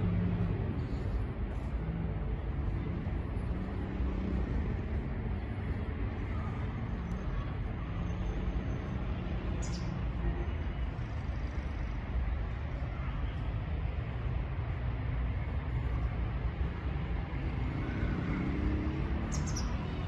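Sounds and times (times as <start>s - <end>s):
distant road traffic rumble: 0.0s - 20.0s.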